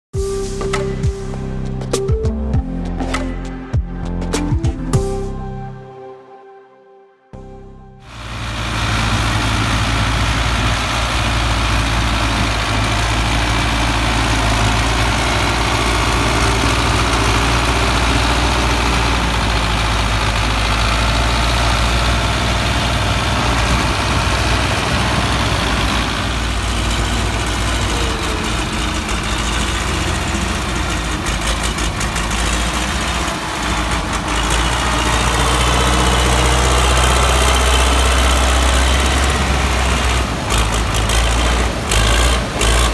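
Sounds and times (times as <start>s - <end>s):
tractor diesel engine running: 8.0s - 42.9s.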